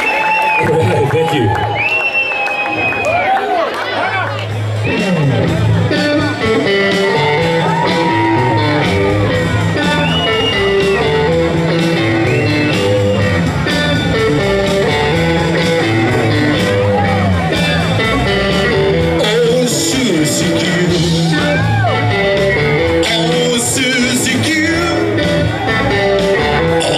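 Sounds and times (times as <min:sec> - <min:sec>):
electric guitar: 0:03.8 - 0:26.9
live rock band playing: 0:04.4 - 0:26.9.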